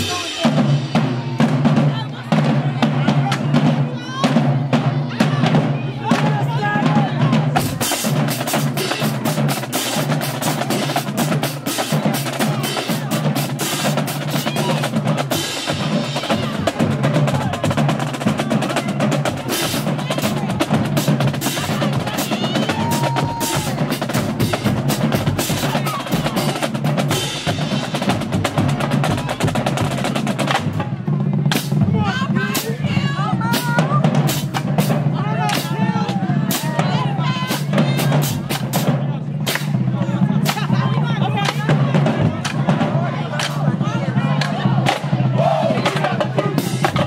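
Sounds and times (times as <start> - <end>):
snare drumline cadence: 0.0 - 47.0.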